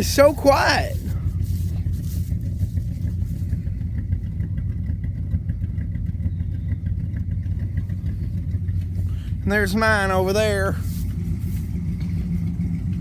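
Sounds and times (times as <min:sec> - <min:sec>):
pickup engine idling: 0:00.0 - 0:13.0.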